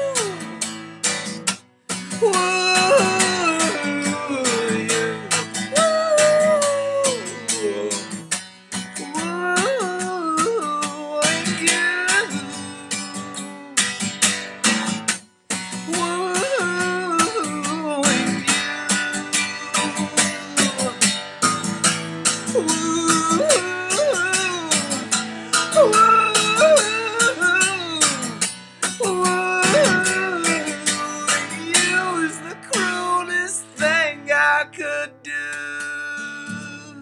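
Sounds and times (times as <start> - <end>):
man singing: 0.0 - 1.3, 2.0 - 14.9, 15.7 - 21.6, 22.2 - 37.0
acoustic guitar strumming: 0.0 - 37.0.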